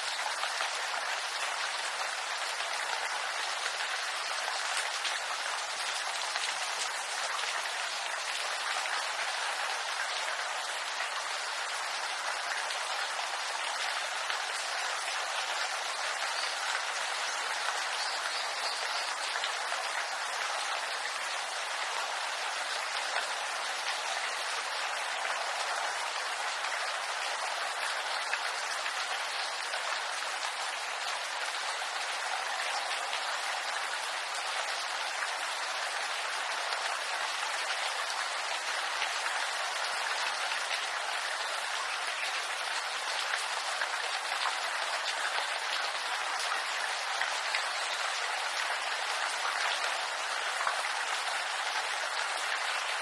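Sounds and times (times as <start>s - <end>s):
rain on bamboo leaves: 0.0s - 53.0s.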